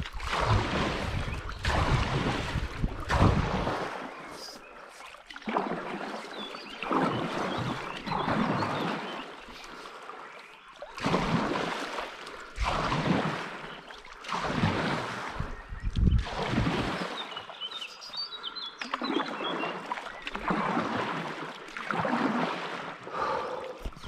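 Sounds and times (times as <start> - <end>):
paddle splashing through water: 0.0 - 24.0.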